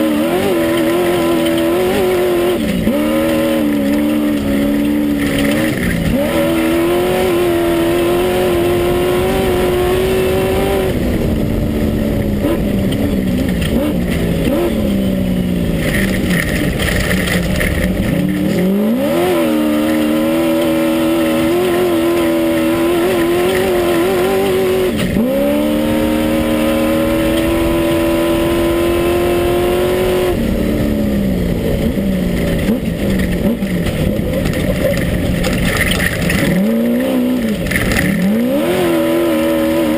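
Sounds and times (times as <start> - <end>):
car running over rough ground: 0.0 - 39.9
race buggy engine revving: 0.0 - 39.9.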